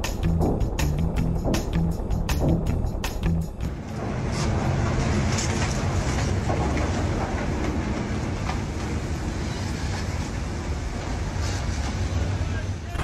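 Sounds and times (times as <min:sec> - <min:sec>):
logs sliding heavy rumble: 0:00.0 - 0:12.6.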